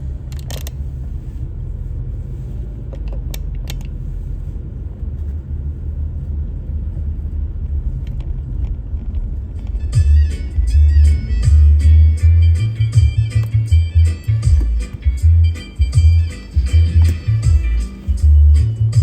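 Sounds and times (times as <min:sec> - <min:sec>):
car rumbling on the move: 0:00.0 - 0:19.0.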